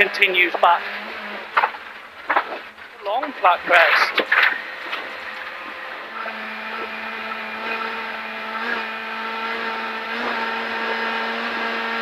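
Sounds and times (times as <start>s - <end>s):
car engine revving high: 0.0s - 12.0s.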